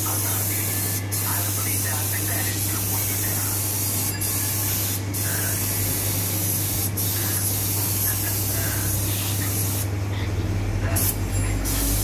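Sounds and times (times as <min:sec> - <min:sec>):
spray gun hissing: 0:00.0 - 0:09.9, 0:11.0 - 0:12.0
steady low hum: 0:00.0 - 0:12.0.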